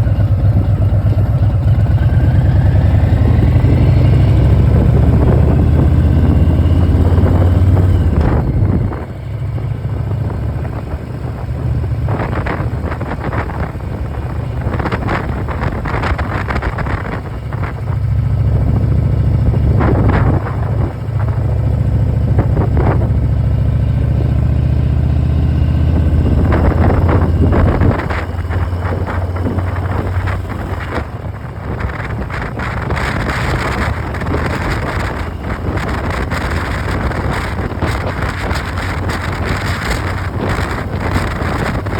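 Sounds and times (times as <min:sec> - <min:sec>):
motorcycle engine riding: 0:00.0 - 0:41.9
wind gusting over microphone: 0:00.0 - 0:41.9.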